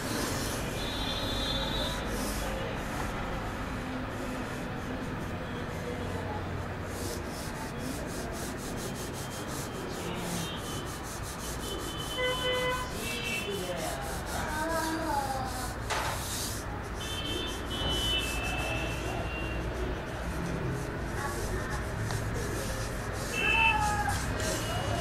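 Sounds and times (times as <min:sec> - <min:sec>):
pen scratching on paper: 0:00.0 - 0:25.0.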